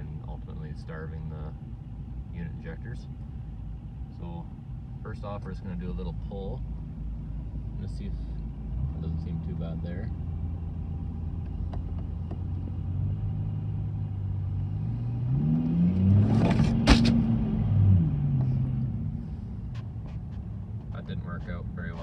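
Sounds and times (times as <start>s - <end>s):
diesel engine accelerating: 4.2s - 22.0s.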